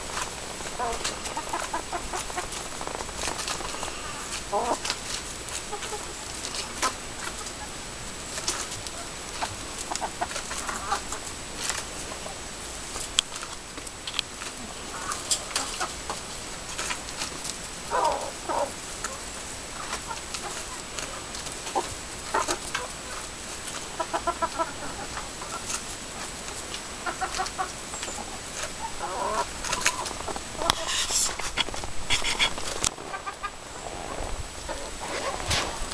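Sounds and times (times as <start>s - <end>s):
beaks clicking on leaves: 0.0s - 33.5s
hens clucking: 0.1s - 13.5s, 14.4s - 35.9s.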